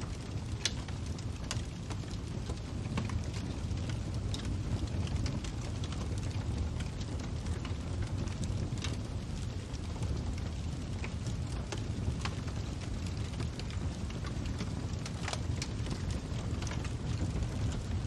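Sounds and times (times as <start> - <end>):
fire crackling and popping: 0.0 - 18.0
low rumble of burning: 0.0 - 18.0.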